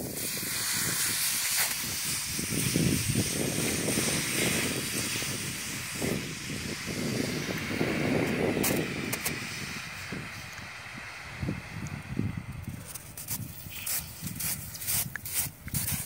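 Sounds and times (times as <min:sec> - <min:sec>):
snow hissing and sizzling: 0:00.0 - 0:16.0.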